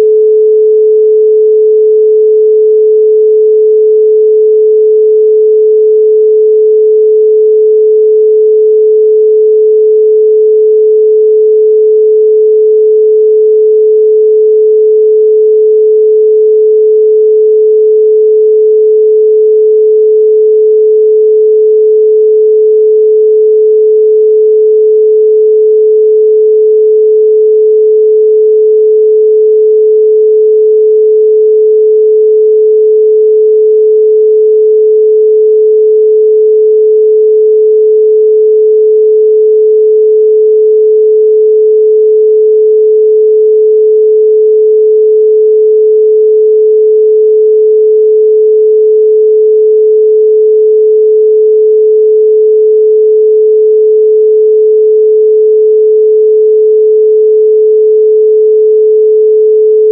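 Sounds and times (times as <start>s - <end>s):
pure sine tone: 0.0s - 59.9s.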